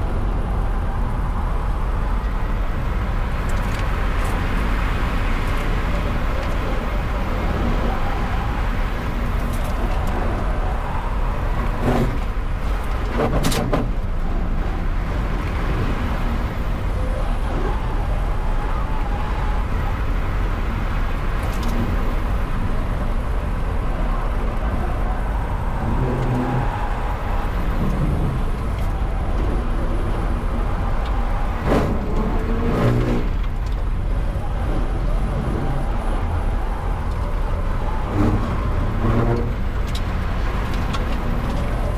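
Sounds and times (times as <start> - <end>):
tyre and road noise: 0.0 - 41.9.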